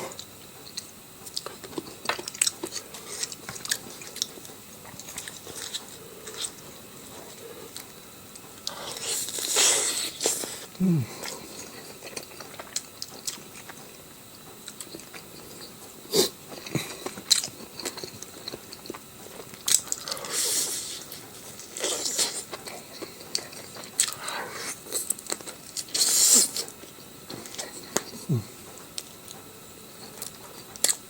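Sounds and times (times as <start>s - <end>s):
person chewing: 0.0s - 8.0s, 8.6s - 14.0s, 14.6s - 29.4s, 30.0s - 31.0s.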